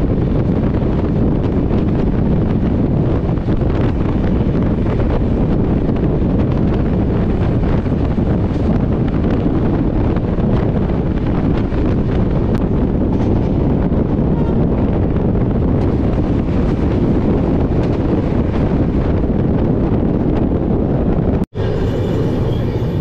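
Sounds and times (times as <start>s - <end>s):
train rumbling: 0.0s - 23.0s
wind on microphone: 0.0s - 23.0s.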